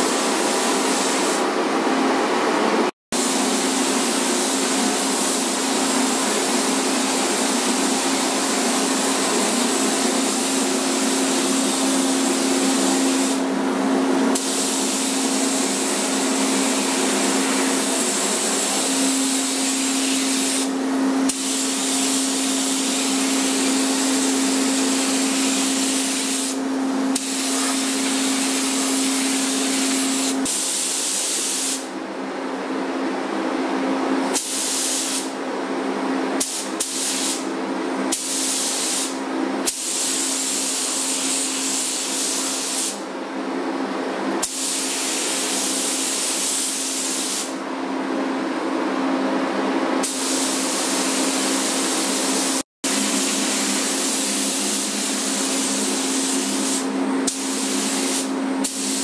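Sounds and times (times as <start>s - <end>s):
paint spray gun hissing: 0.1s - 1.4s, 3.2s - 13.4s, 14.4s - 20.7s, 21.3s - 31.9s, 34.4s - 35.3s, 36.4s - 37.5s, 38.1s - 43.0s, 44.4s - 47.6s, 50.0s - 59.0s.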